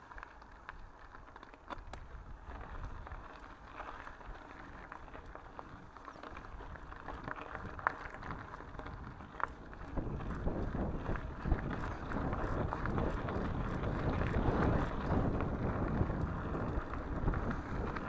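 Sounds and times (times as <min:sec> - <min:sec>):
bike tyres on gravel: 0:00.0 - 0:18.0
small clicks and rattles: 0:00.0 - 0:18.0
wind rumble on microphone: 0:01.7 - 0:18.0.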